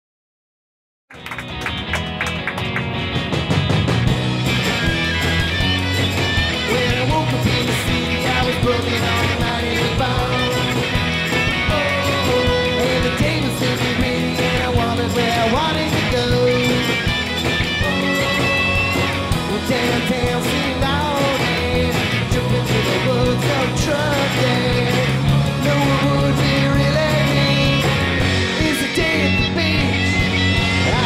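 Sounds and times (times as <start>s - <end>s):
rock song with vocals: 2.6s - 31.0s.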